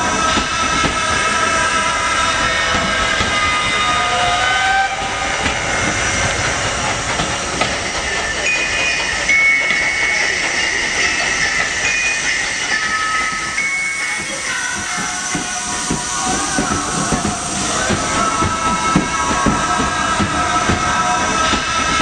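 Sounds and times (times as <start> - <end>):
diesel train engines idling: 0.0 - 22.0.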